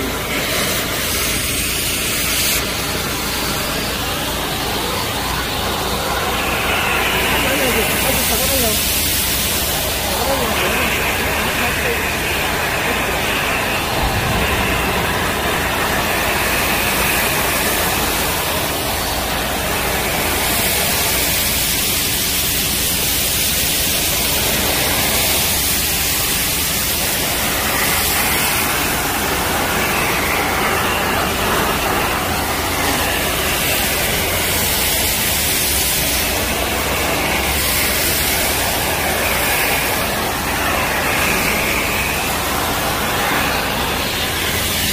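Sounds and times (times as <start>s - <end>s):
industrial vacuum hissing: 0.0s - 44.9s.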